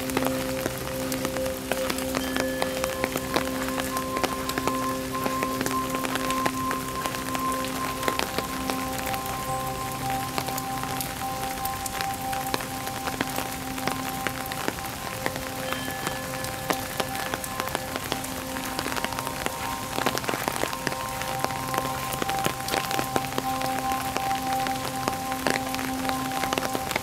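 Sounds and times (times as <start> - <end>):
raindrops tapping: 0.0 - 27.0
steady rain: 0.0 - 27.0.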